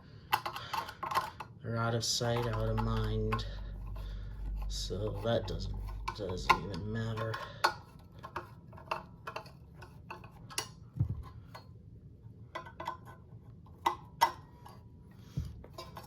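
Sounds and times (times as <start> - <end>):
small metal clicks and knocks: 0.2 - 11.7, 12.5 - 16.0.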